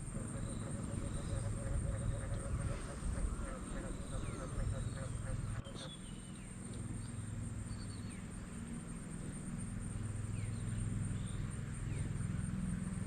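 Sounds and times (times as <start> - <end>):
high insect drone: 0.0 - 13.0
low pulsing hum: 0.0 - 13.0.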